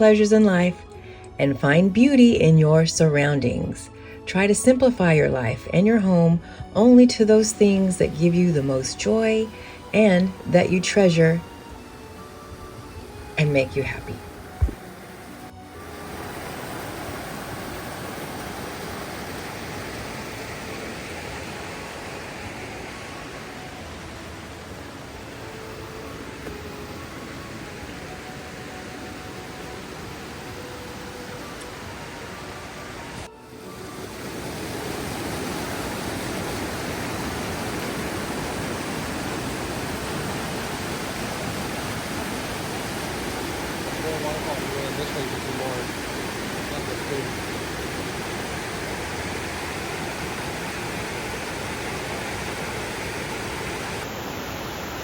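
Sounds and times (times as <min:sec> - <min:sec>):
steady rushing noise: 0:08.7 - 0:55.0.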